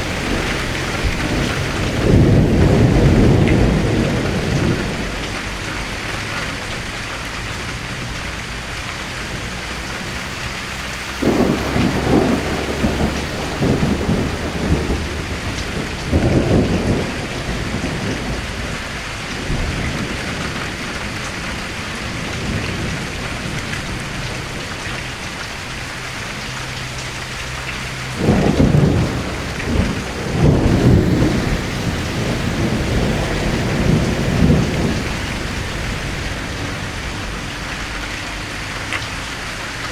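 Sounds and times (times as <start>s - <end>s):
thunder rumbling: 0.0s - 7.1s, 7.8s - 39.8s
steady rain: 0.0s - 39.9s.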